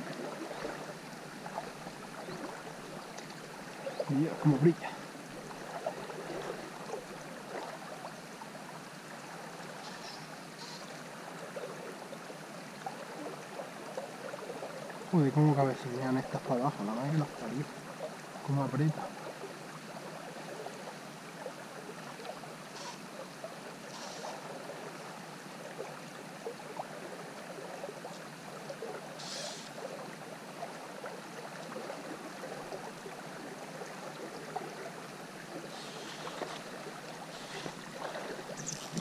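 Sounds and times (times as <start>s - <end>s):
river water flowing: 0.0s - 39.0s.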